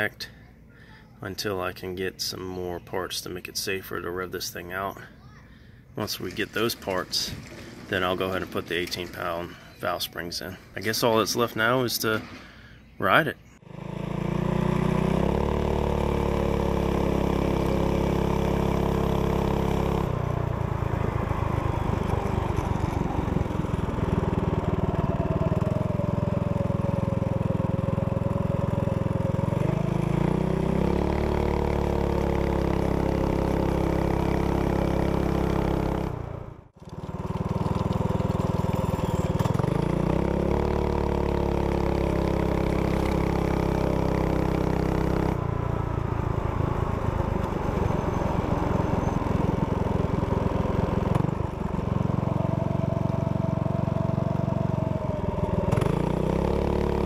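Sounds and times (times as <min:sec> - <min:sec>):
mini bike engine running: 0:06.1 - 0:09.8, 0:13.6 - 0:57.0.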